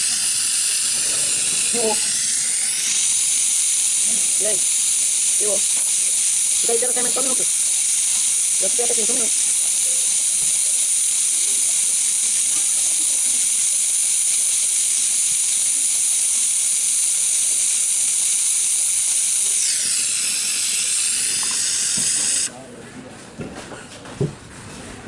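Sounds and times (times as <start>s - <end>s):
pressurised gas hissing: 0.0s - 22.5s.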